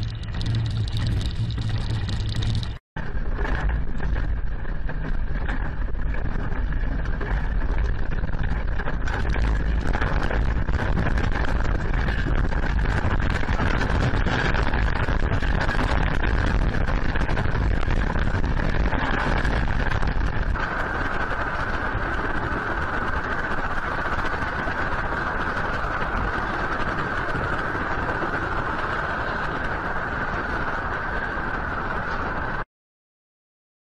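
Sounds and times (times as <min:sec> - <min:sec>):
strong low rumble: 0:00.0 - 0:32.6.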